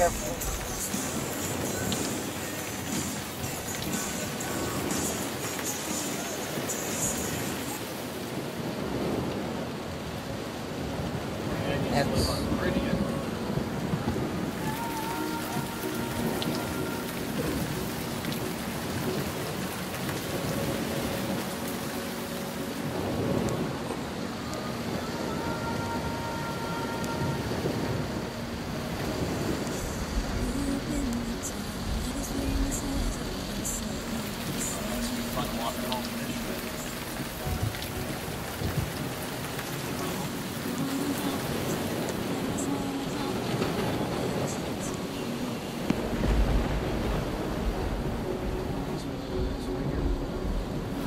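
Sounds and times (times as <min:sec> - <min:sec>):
tyres hissing through water: 0:00.0 - 0:08.2, 0:11.5 - 0:46.3
sharp raindrop impacts: 0:00.0 - 0:10.3, 0:10.9 - 0:51.0
heavy rain on car roof: 0:00.0 - 0:51.0.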